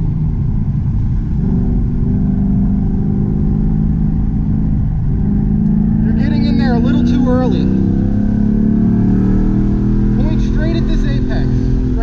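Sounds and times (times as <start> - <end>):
car engine pulling hard: 0.0 - 12.0
road rumble: 0.0 - 12.0.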